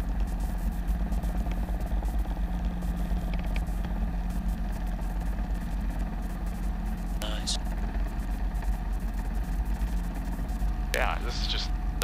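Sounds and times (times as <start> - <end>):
helicopter engine and rotor pulsing: 0.0 - 12.0.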